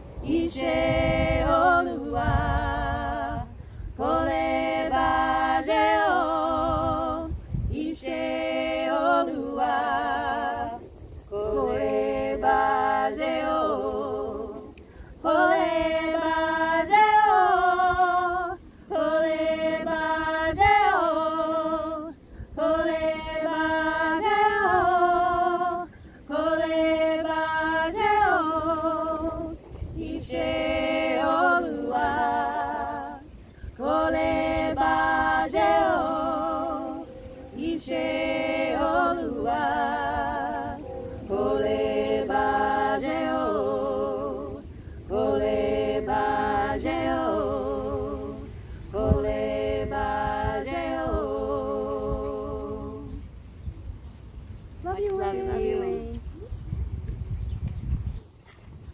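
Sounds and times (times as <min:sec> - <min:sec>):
women singing in harmony: 0:00.0 - 0:53.4, 0:54.8 - 0:56.5.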